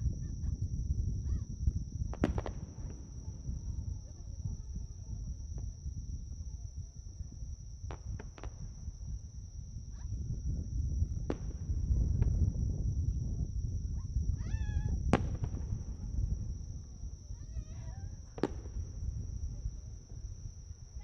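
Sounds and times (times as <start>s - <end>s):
insects trilling: 0.0s - 21.0s
low background rumble: 0.0s - 21.0s.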